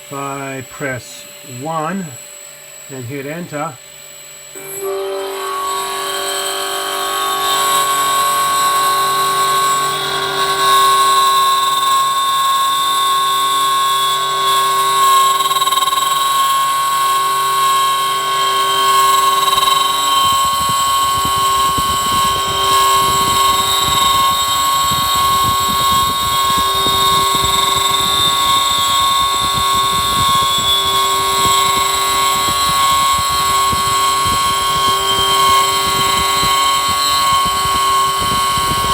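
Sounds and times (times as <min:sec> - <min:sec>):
stepper motor whine: 0:00.0 - 0:38.9.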